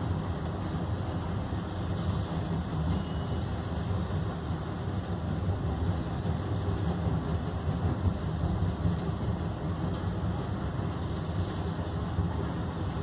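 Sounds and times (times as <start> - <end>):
diesel engine rumbling under load: 0.0 - 13.0.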